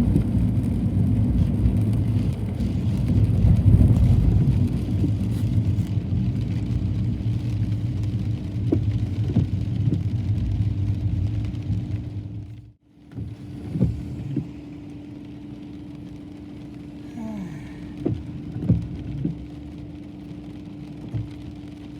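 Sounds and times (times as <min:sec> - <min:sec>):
car engine and road noise: 0:00.0 - 0:21.9.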